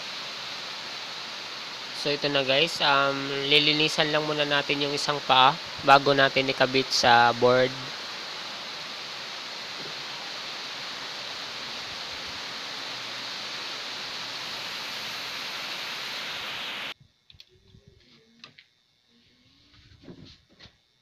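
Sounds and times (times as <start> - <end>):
steady hiss: 0.0 - 20.8.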